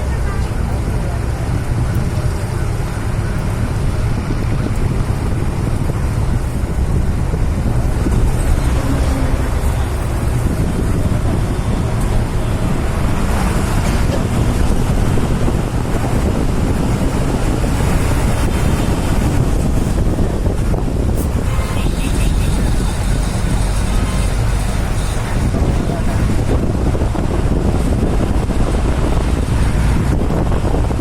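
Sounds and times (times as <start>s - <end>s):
low rumble of vehicle noise: 0.0s - 31.0s
wind buffeting microphone: 0.0s - 31.0s.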